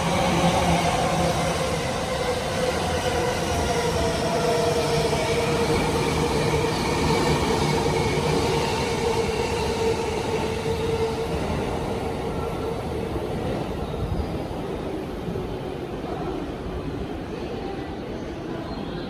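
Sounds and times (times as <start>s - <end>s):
electric train rolling rumble: 0.0s - 19.0s.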